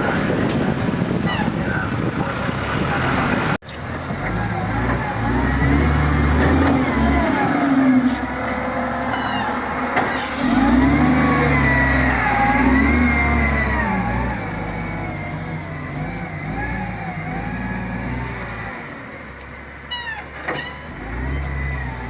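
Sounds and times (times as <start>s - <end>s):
bulldozer diesel engine revving: 0.0s - 22.0s.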